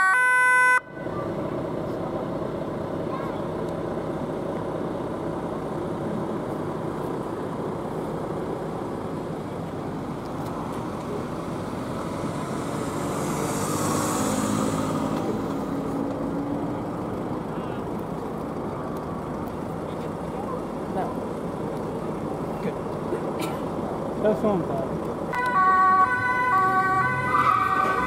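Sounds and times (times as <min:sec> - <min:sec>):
vehicle engines idling: 0:00.8 - 0:28.0.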